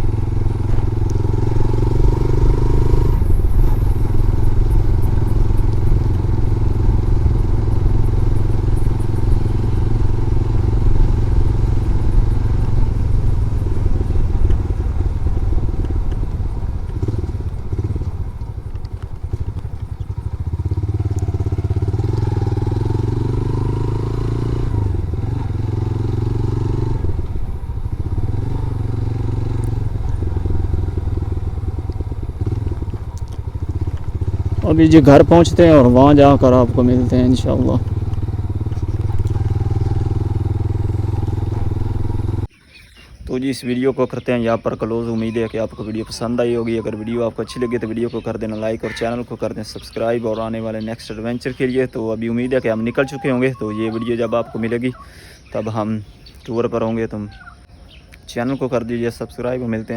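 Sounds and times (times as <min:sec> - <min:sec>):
motorcycle engine running: 0:00.0 - 0:42.6, 0:44.6 - 0:56.4.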